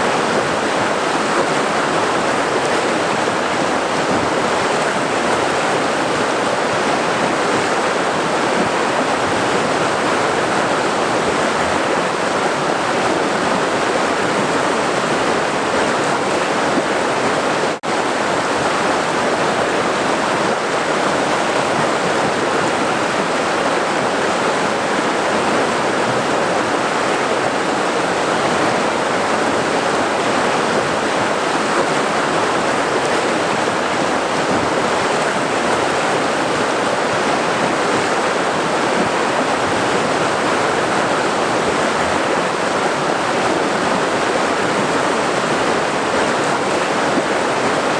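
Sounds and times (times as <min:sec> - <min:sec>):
rushing river water: 0:00.0 - 0:47.9.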